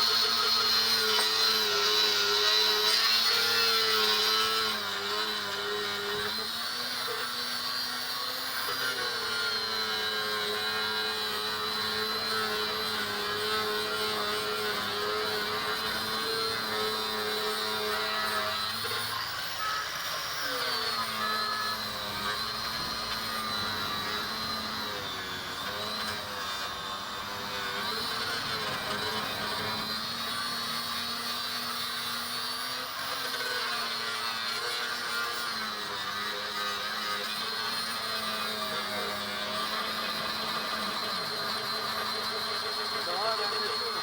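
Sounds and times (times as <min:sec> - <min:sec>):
electric sander whining: 0:00.0 - 0:44.0.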